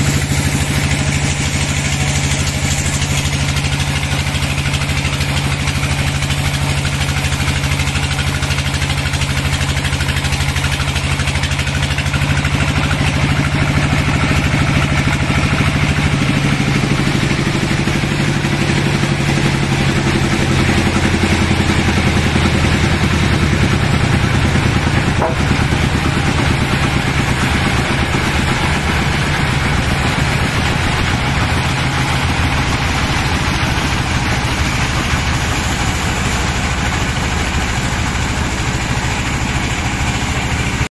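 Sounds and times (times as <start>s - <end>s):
band sawmill sawing log: 0.0s - 40.9s.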